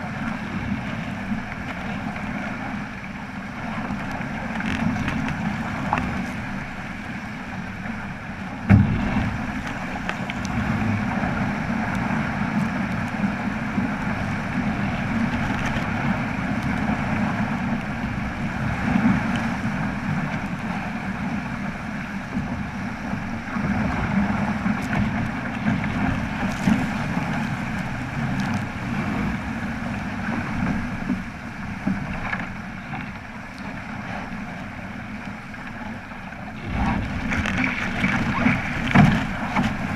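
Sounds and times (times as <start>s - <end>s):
water noise from a sailboat: 0.0s - 39.9s
wind: 0.0s - 39.9s.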